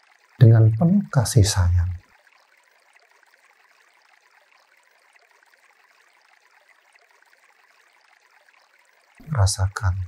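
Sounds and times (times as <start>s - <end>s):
faint flowing stream: 0.0s - 10.0s.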